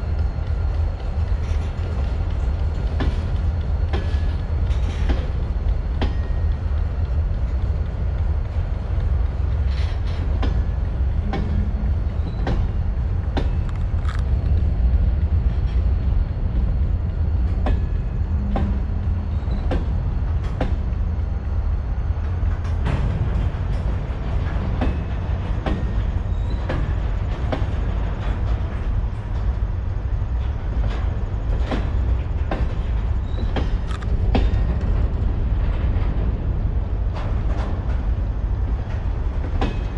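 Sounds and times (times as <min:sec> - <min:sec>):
freight train rumbling: 0:00.0 - 0:39.9
wheels clicking over rail joints: 0:00.0 - 0:39.9.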